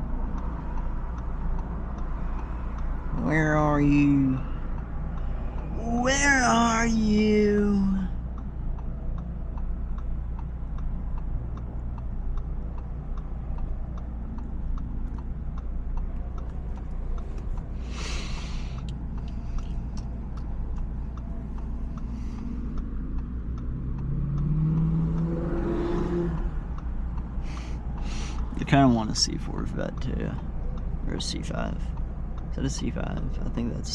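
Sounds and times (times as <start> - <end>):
car engine hum inside cabin: 0.0 - 33.9
light regular ticking: 0.0 - 33.9.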